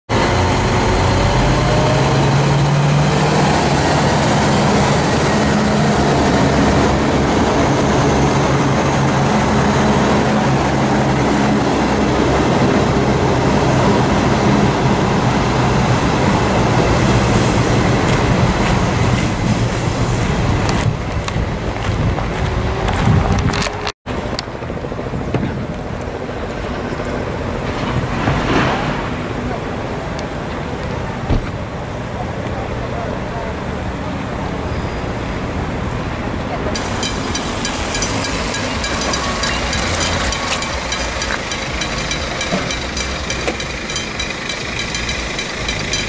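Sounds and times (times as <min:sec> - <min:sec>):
train wheels rumbling on rails: 0:00.1 - 0:46.0.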